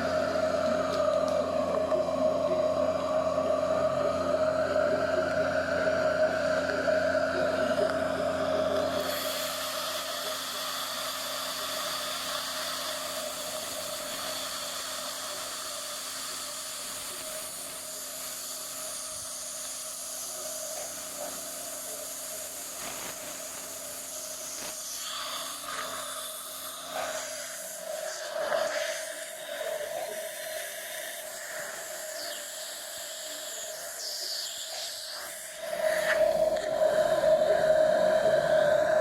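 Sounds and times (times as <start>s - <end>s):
dental equipment hissing: 0.0s - 39.0s.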